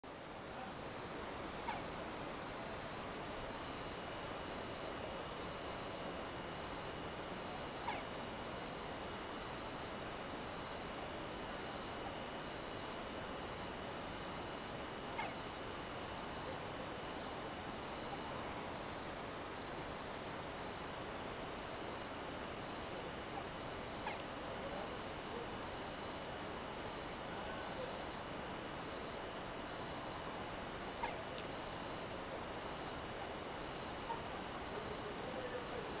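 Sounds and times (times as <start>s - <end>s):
high-pitched insect trill: 0.1s - 34.7s
higher insect layer: 0.1s - 36.0s.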